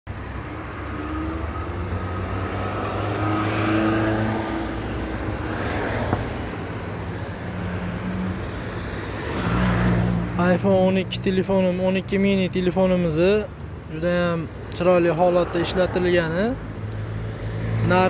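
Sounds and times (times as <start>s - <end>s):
cars passing: 0.1s - 18.0s.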